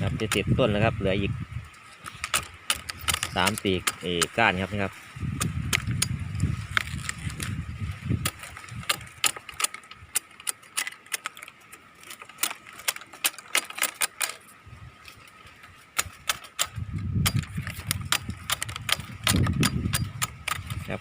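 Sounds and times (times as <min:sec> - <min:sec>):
hand cutting tool snipping: 0:02.0 - 0:04.6, 0:05.3 - 0:14.5, 0:15.9 - 0:21.0.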